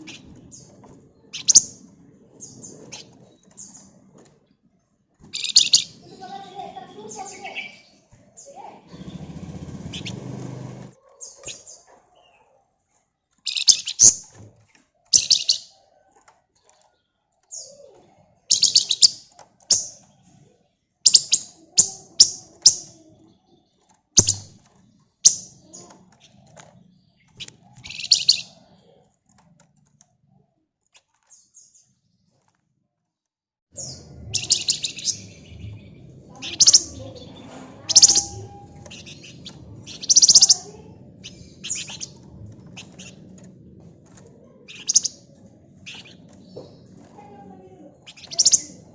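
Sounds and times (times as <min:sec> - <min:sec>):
songbird singing: 0:00.0 - 0:12.5, 0:13.3 - 0:29.2, 0:33.8 - 0:48.9.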